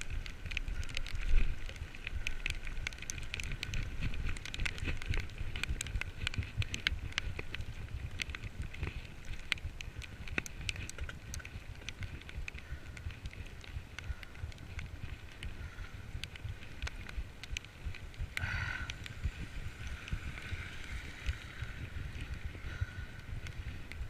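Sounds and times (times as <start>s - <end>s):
raindrops ticking on microphone: 0.0s - 24.0s
steady low rumble: 0.0s - 24.0s.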